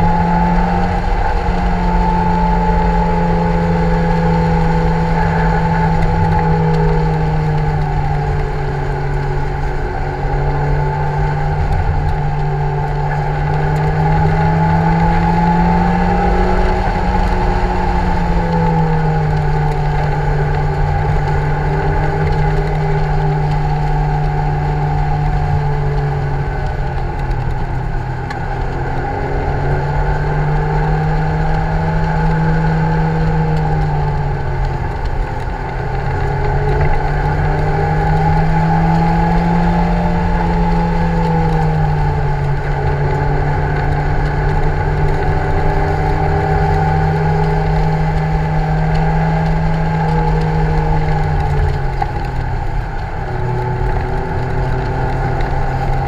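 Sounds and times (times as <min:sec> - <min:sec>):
car engine at high revs: 0:00.0 - 0:56.0
road noise: 0:00.0 - 0:56.0.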